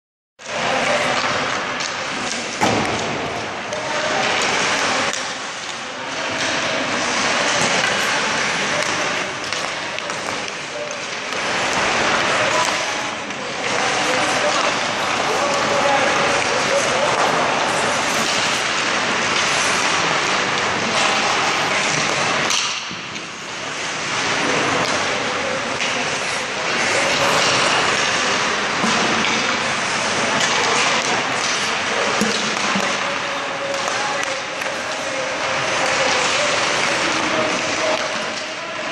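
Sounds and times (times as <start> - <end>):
skates scraping on ice: 3.3 - 38.9
sticks clicking against pucks: 3.7 - 23.3, 24.3 - 38.6.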